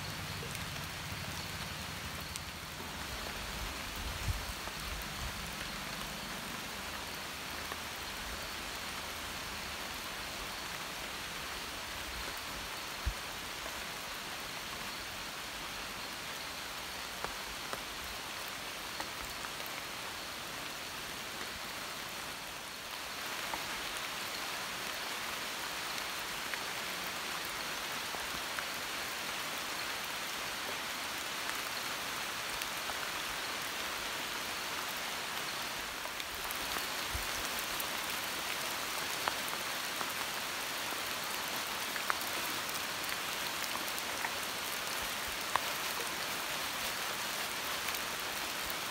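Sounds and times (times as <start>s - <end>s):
rain on foliage: 0.0s - 48.9s.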